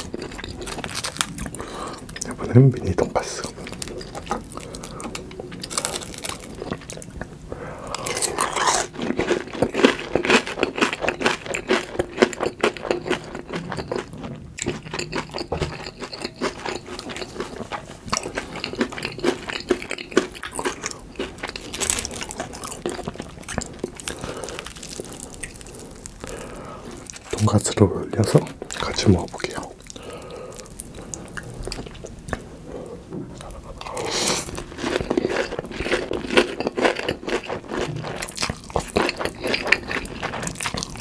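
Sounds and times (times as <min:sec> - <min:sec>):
crunchy biting and chewing: 0:00.0 - 0:02.4, 0:03.4 - 0:27.6, 0:33.4 - 0:41.0.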